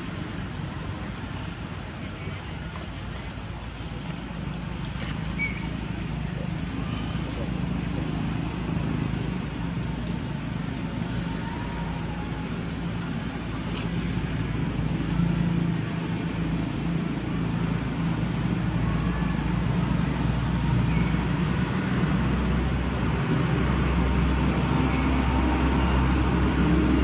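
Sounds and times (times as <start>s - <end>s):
constant background noise: 0.0s - 27.0s.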